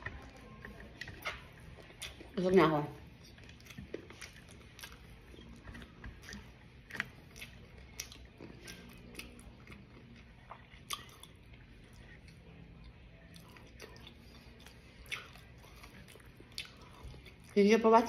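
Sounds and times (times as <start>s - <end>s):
chewing crunchy dried fish: 0.0s - 17.6s.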